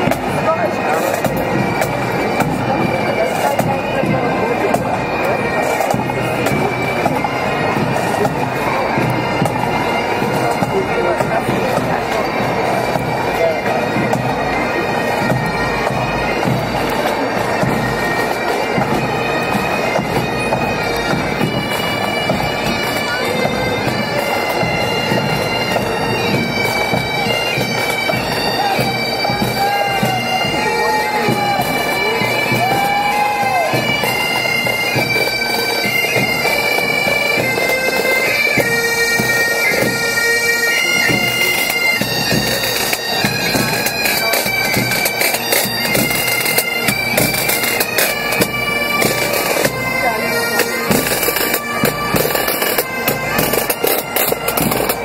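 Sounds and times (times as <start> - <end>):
bagpipes playing a march: 0.0 - 55.0
band drums: 0.0 - 55.0.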